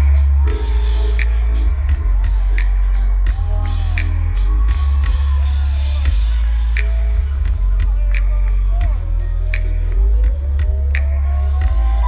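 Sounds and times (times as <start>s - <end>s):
crowd whooping: 0.0s - 12.0s
loud electronic music: 0.0s - 12.0s.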